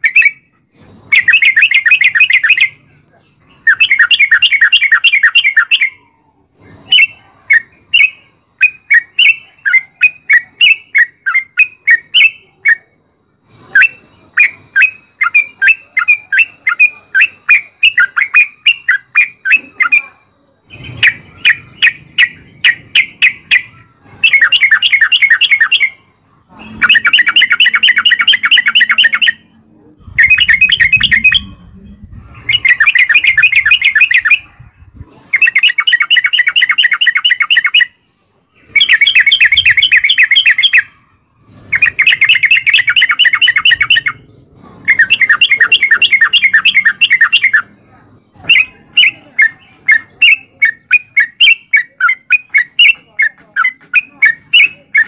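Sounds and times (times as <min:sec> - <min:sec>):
bird singing rapid chirps: 0:00.0 - 0:13.0, 0:13.7 - 0:20.1, 0:20.7 - 0:34.5, 0:35.3 - 0:55.0.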